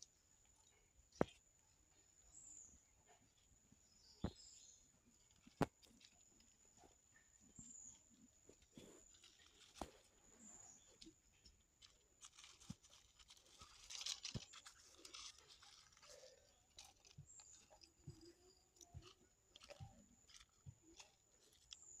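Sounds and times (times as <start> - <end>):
crisp rustling of dried chilies: 3.3 - 22.0.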